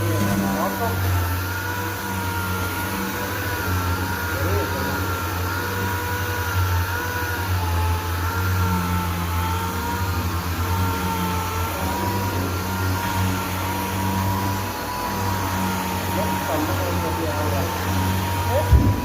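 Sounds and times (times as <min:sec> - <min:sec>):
power sander whining: 0:00.0 - 0:19.0.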